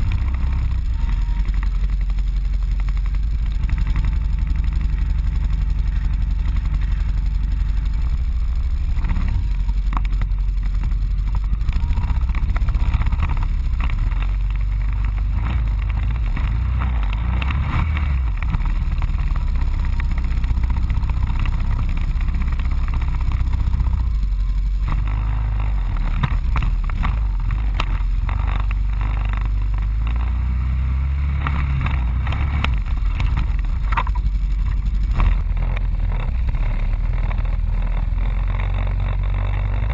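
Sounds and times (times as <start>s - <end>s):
atv engine running slowly: 0.0s - 39.9s.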